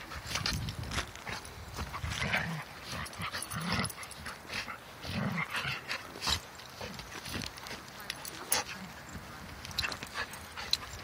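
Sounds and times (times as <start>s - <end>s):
dogs making low vocal sounds: 0.0s - 11.0s.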